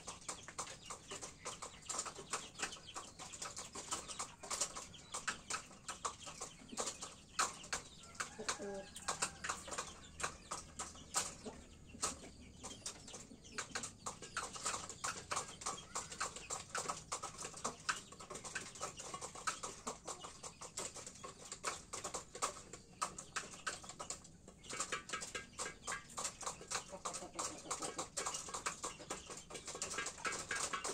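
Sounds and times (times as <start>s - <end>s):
chick pecking rapid ticking: 0.0s - 30.9s
chicken clucking: 0.0s - 30.9s.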